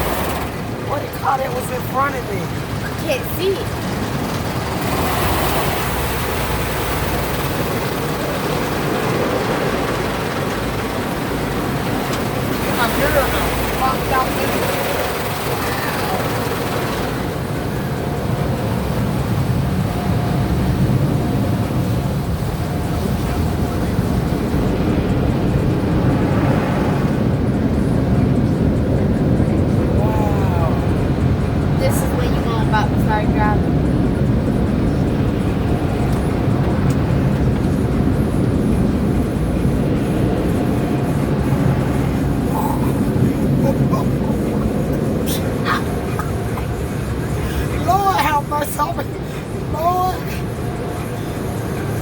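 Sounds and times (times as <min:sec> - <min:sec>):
car wash equipment running: 0:00.0 - 0:52.0.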